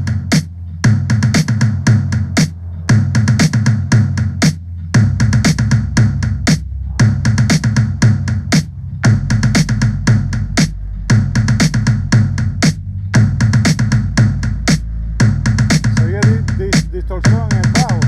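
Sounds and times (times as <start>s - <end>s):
electronic dance music: 0.0s - 18.0s.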